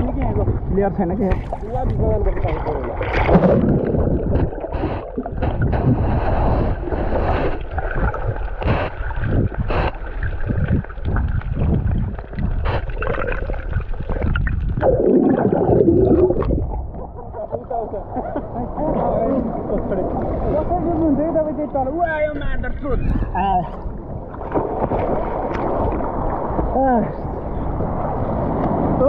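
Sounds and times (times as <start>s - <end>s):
water splashing and gurgling: 0.0s - 21.9s, 23.2s - 29.0s
wind buffeting microphone: 0.0s - 29.0s.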